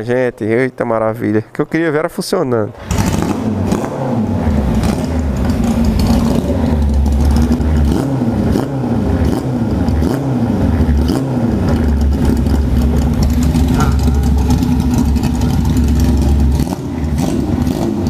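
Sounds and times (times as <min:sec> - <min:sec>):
motorcycle engine revving: 0:02.8 - 0:18.0.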